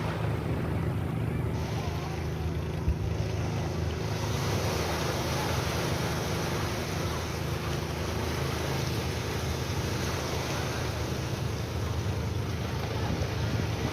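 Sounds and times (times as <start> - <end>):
sea waves rushing: 0.0 - 13.9
wind buffeting microphone: 0.0 - 13.9.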